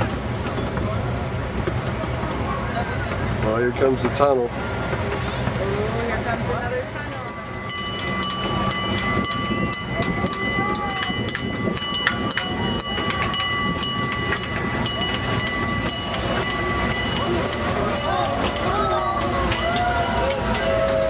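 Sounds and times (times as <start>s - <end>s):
miniature train clicking on track: 0.0s - 21.0s.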